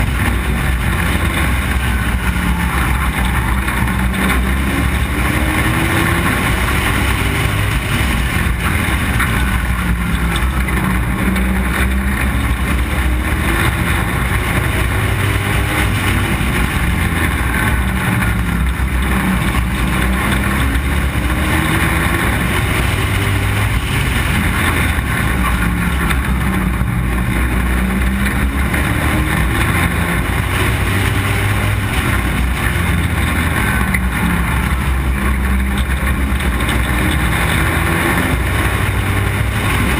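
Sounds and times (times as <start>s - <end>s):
other race cars: 0.0s - 39.9s
race car engine accelerating: 0.0s - 39.9s.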